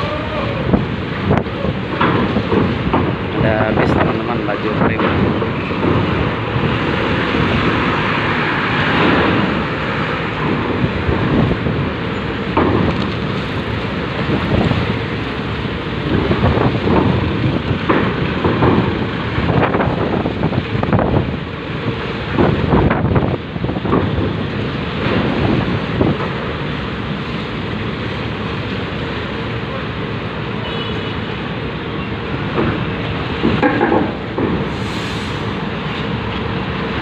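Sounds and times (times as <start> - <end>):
wind buffeting microphone: 0.0 - 29.7
vehicles driving over steel ramp: 0.0 - 37.0.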